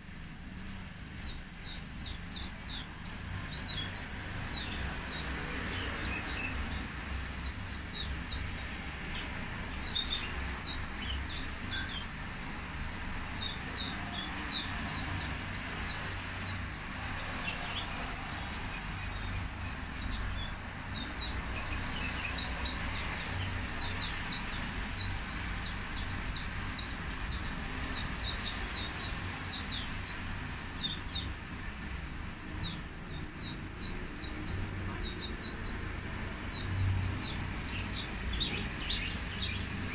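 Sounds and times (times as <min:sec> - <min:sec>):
bird twittering song: 0:00.6 - 0:31.6, 0:32.4 - 0:39.9.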